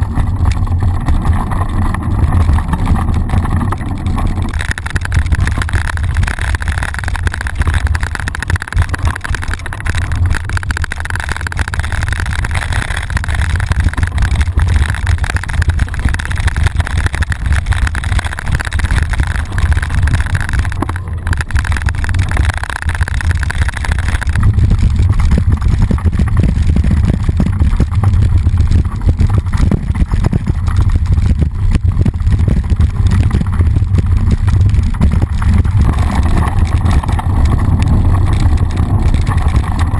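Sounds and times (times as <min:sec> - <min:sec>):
bike rattling and clattering: 0:00.0 - 0:39.9
wind buffeting microphone: 0:00.0 - 0:39.9.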